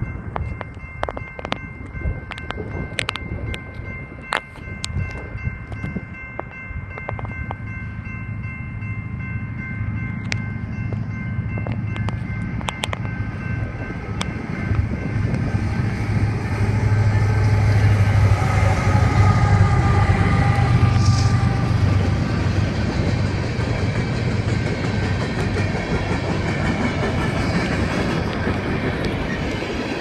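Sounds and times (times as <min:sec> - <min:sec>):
high ringing tones: 0:00.0 - 0:25.3
diesel locomotive rumble: 0:00.0 - 0:30.0.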